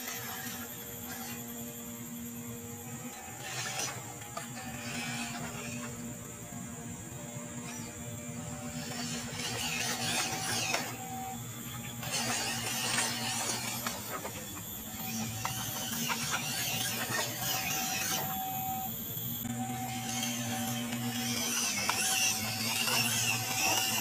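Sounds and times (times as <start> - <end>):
toy truck crawling over leaves: 0.0 - 1.5, 3.0 - 6.2, 7.6 - 18.8, 19.6 - 24.0
electric motor whirring: 0.0 - 24.0.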